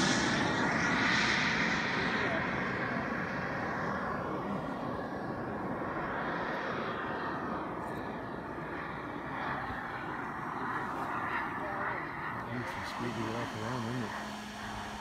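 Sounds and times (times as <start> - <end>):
model jet engine rushing: 0.0 - 15.0.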